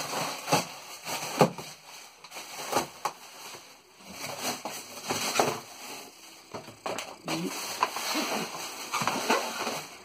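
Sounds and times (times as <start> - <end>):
plastic wrap rustling and crinkling: 0.0 - 10.0.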